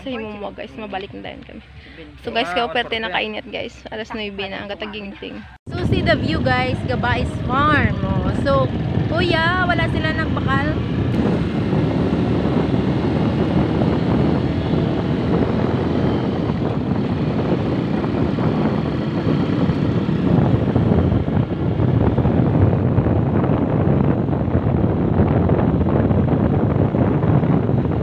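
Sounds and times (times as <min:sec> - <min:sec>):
vehicle engine rumble: 0:00.0 - 0:28.0
wind on microphone: 0:00.0 - 0:28.0.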